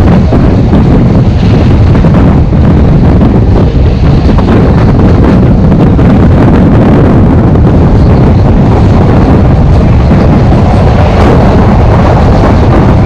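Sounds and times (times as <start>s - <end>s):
train coaches rumbling on track: 0.0s - 13.0s
wind buffeting microphone: 0.0s - 13.0s.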